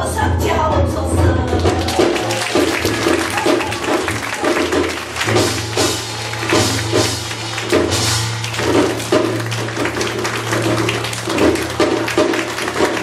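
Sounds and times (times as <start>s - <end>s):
hourglass drum beating: 1.6s - 13.0s.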